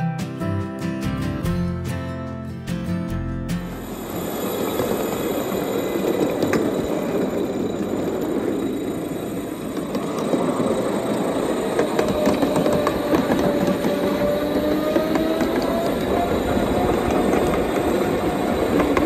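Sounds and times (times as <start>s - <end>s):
miniature train rumbling on track: 3.6s - 19.0s
wheels clicking over rail joints: 3.6s - 19.0s
wheel squeal: 3.7s - 19.0s.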